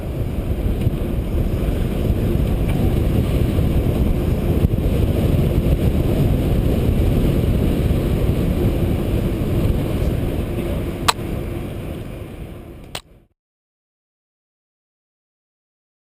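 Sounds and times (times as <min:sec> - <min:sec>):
bike rolling on tarmac: 0:00.0 - 0:13.0
wind on microphone: 0:00.0 - 0:13.0.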